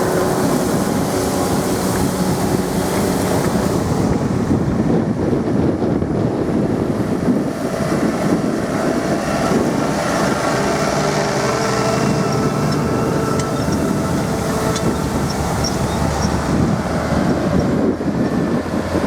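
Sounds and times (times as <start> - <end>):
tractor engines under load: 0.0 - 19.0
wind buffeting microphone: 0.0 - 19.0.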